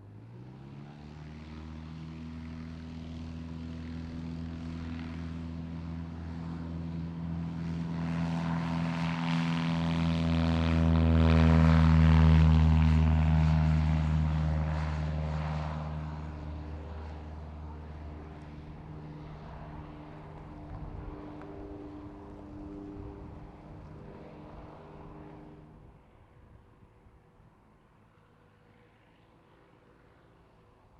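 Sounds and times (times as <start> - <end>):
propeller aircraft passing: 0.0 - 30.9.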